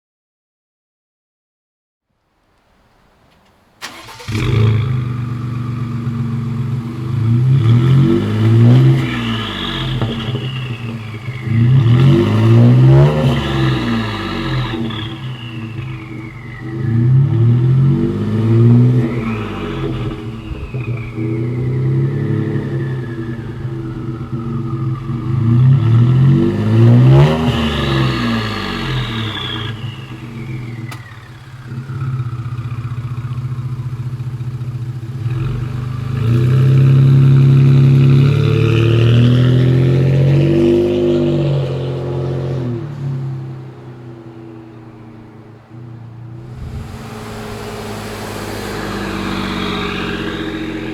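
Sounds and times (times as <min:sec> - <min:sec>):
engine revving: 0:03.8 - 0:50.9.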